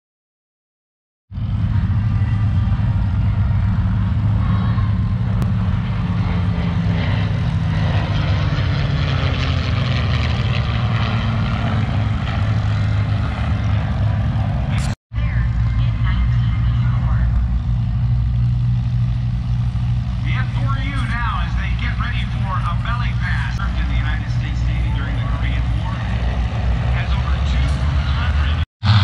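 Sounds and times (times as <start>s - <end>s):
airplane engines droning: 1.3s - 29.0s.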